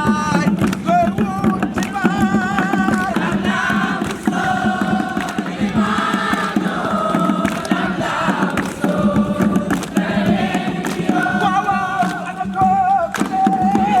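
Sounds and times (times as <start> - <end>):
steady rhythmic beat: 0.0 - 14.0
voices singing in chorus: 0.0 - 14.0.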